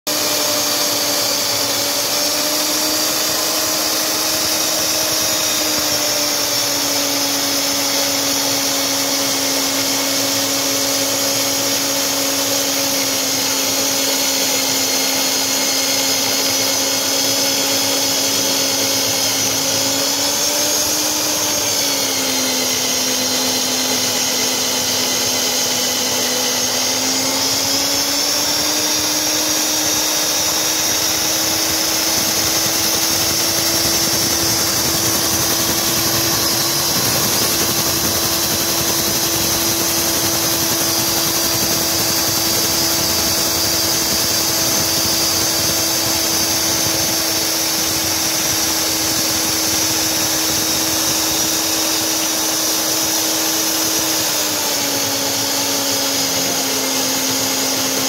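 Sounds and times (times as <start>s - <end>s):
core drill cutting concrete: 0.0s - 58.0s.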